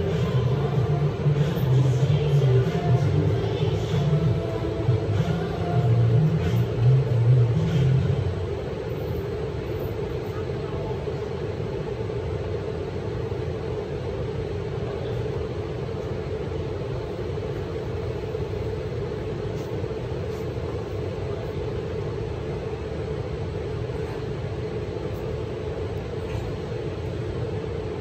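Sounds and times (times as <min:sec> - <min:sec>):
building ventilation running: 0:00.0 - 0:28.0.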